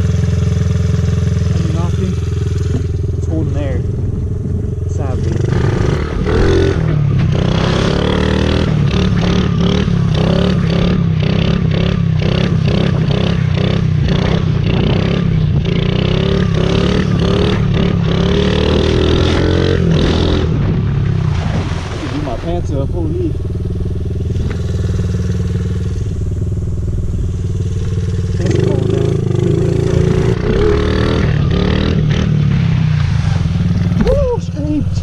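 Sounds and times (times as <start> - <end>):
small motorbike engine revving: 0.0 - 20.7, 23.3 - 35.0.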